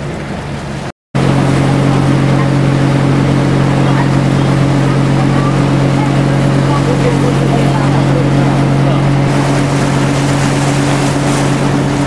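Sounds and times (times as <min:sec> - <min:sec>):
boat engine humming: 0:00.0 - 0:12.0
water: 0:00.0 - 0:12.0
wind noise: 0:00.0 - 0:12.0.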